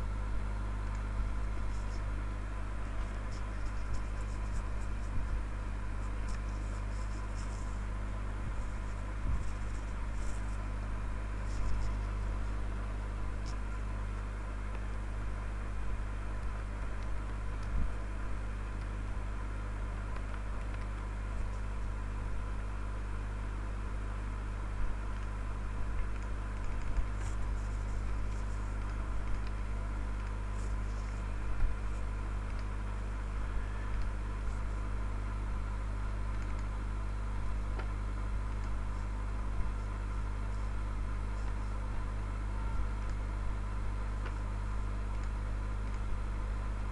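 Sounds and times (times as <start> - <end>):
electrical hum with hiss: 0.0 - 46.9.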